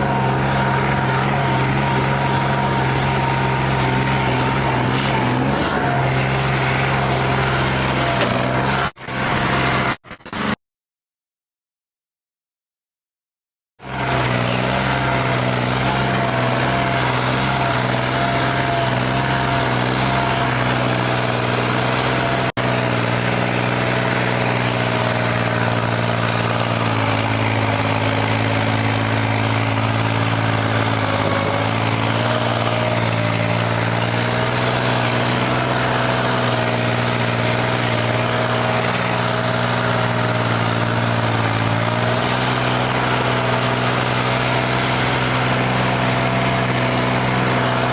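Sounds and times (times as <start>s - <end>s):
tractor diesel engine running: 0.0s - 10.5s, 13.8s - 47.9s.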